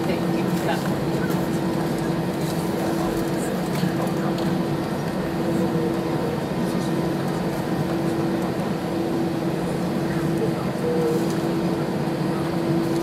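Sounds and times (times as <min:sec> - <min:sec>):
airliner cabin engine hum: 0:00.0 - 0:13.0.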